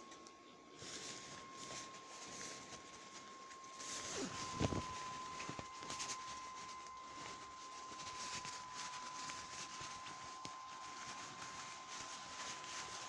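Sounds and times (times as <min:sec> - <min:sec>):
blower fan whine: 0:00.0 - 0:13.0
plastic poncho rustling: 0:00.1 - 0:13.0.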